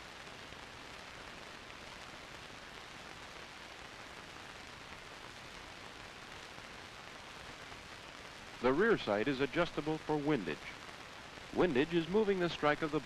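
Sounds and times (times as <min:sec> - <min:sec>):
steady film soundtrack hiss: 0:00.0 - 0:13.0.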